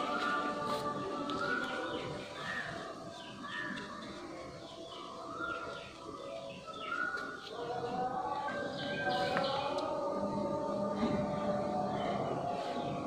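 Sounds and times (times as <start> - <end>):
background music with held notes: 0.0 - 13.0
birds chirping: 0.0 - 13.0.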